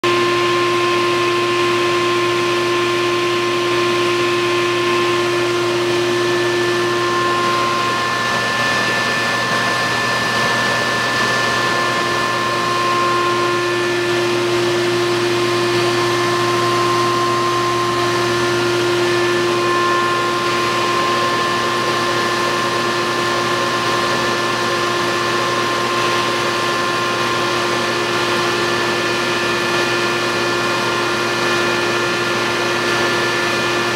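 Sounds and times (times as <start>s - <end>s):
vacuum grooming brush motor whine: 0.0s - 33.9s.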